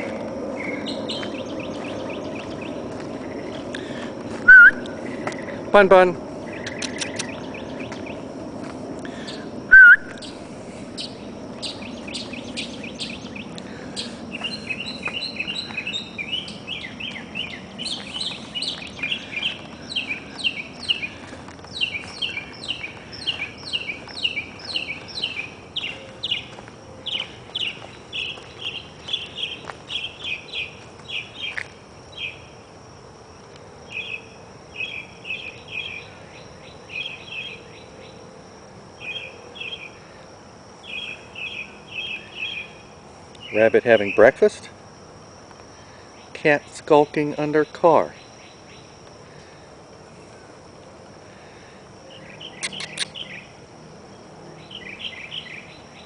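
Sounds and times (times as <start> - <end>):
high-pitched insect trill: 0.0 - 56.0
songbirds chirping: 0.0 - 56.0.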